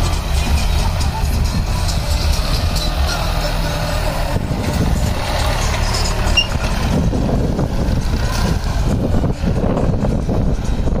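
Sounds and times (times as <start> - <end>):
tractor diesel engines rumbling: 0.0 - 11.0.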